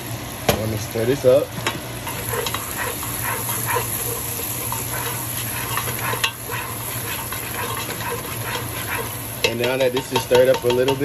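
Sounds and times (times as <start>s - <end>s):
peas sizzling in butter: 0.6s - 11.0s
spoon scraping a pot: 2.1s - 11.0s.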